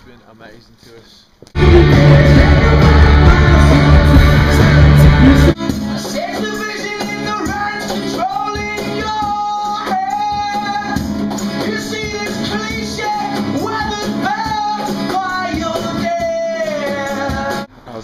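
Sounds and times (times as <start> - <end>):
rock song with sung vocals: 1.6 - 17.7.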